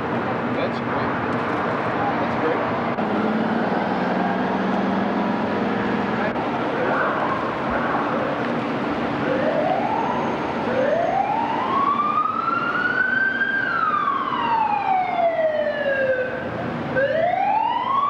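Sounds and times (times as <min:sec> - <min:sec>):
city traffic noise: 0:00.0 - 0:18.0
emergency vehicle siren wailing: 0:01.9 - 0:18.0.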